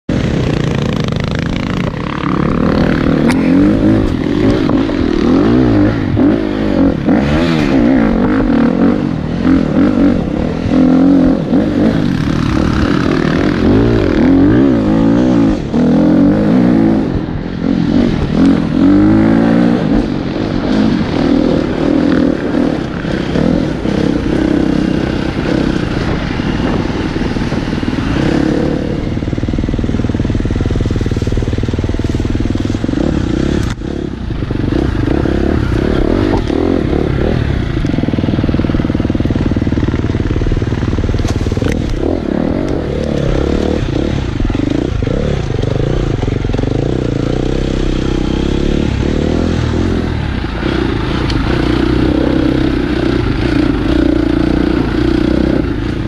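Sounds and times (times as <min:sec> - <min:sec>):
dirt bike engine revving: 0:00.1 - 0:56.0.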